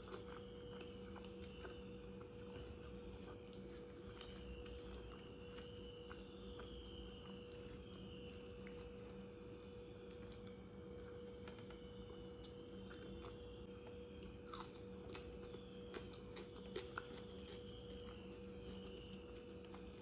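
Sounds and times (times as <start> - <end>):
person chewing: 0.0 - 9.2, 12.5 - 13.4, 14.2 - 20.0
steady low hum: 0.0 - 20.0.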